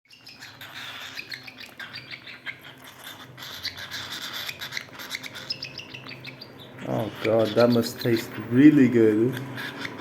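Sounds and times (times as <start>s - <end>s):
cockatiel chirping and squeaking: 0.1s - 10.0s.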